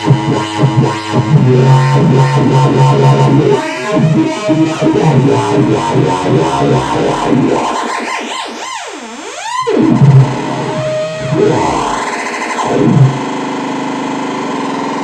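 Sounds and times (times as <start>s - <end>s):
sweeping synthesizer tone: 0.0s - 13.4s
buzzing synthesizer sequence: 0.0s - 15.0s.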